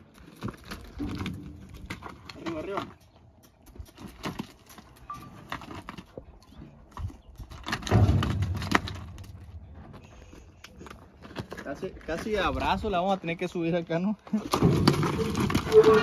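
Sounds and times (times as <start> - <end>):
hooves on a trailer: 0.0 - 13.5.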